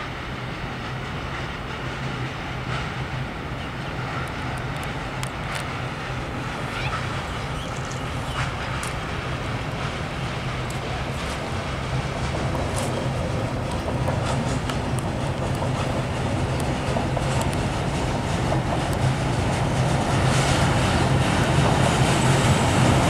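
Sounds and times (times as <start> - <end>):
locomotive engine drone: 0.0 - 23.0.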